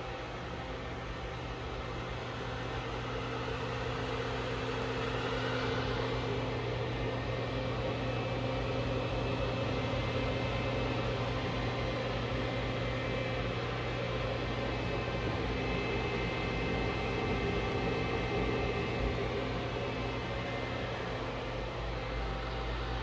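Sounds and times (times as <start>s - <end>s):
machine hum with fan hiss: 0.0s - 23.0s.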